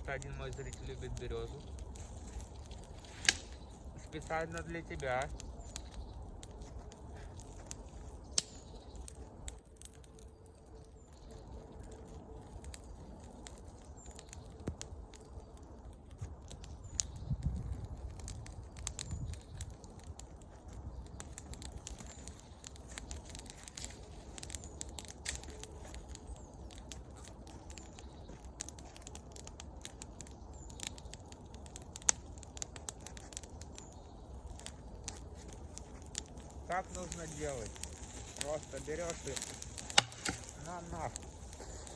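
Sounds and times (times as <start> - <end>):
campfire crackling and snapping: 0.0 - 41.9.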